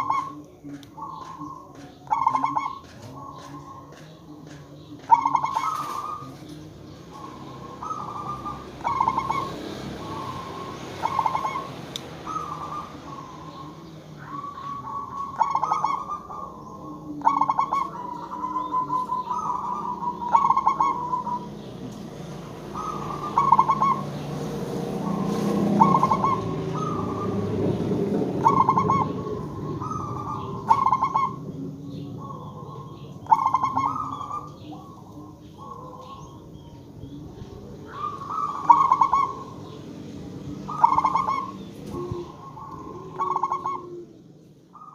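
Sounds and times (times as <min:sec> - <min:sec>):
dove cooing in trills: 0:00.0 - 0:44.9.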